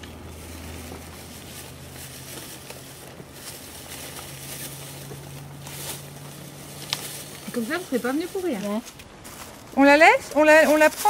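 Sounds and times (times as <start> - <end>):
leaves rustling: 0.0 - 11.0
plastic bag rustling: 0.0 - 11.0.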